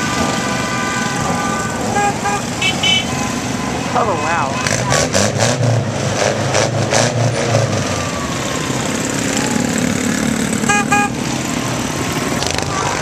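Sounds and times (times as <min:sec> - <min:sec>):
motorbike engines passing: 0:00.0 - 0:13.0
steady engine tone: 0:00.7 - 0:13.0.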